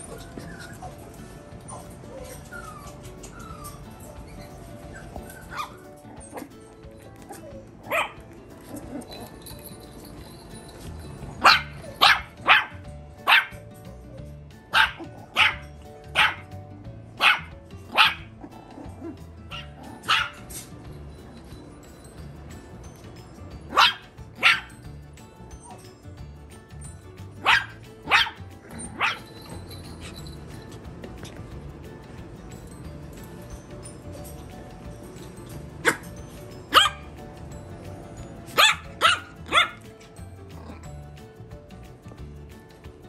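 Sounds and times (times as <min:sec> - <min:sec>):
puppies yapping: 0:00.0 - 0:41.0
faint music: 0:00.0 - 0:43.0.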